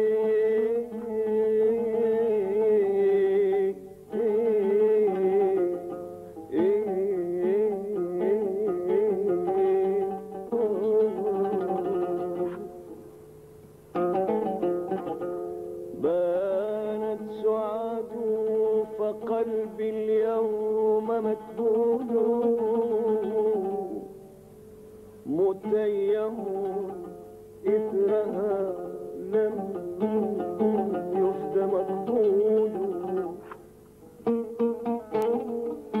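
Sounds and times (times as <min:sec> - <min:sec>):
oud plucked: 0:00.0 - 0:36.0.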